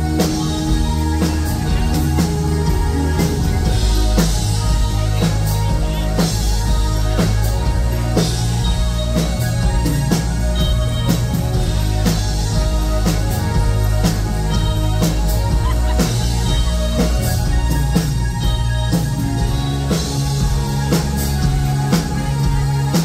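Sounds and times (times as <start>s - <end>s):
rock band playing: 0.0s - 23.0s
steady drum beat: 0.0s - 23.0s.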